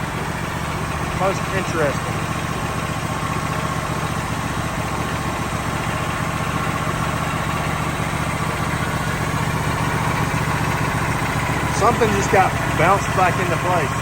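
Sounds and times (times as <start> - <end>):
sawmill engine idling: 0.0 - 14.0.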